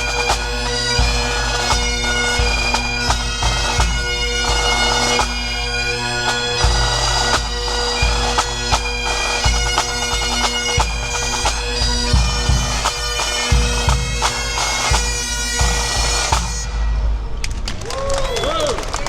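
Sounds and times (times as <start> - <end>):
drum strokes: 0.0 - 17.8.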